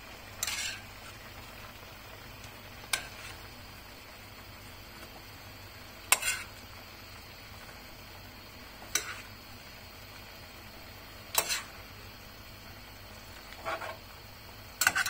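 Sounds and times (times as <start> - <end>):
stew sizzling in a pan: 0.0 - 15.0.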